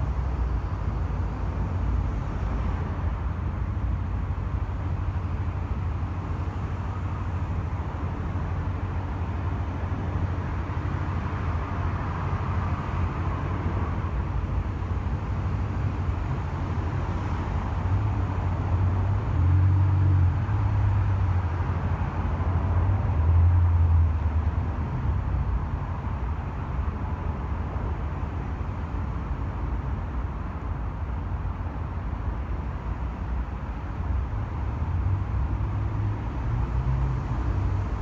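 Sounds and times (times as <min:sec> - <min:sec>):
traffic engine rumble: 0:00.0 - 0:38.0.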